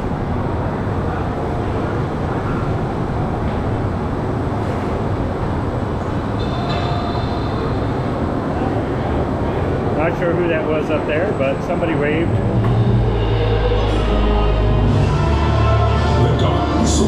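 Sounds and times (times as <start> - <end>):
roller coaster car rumbling on track: 0.0 - 17.0.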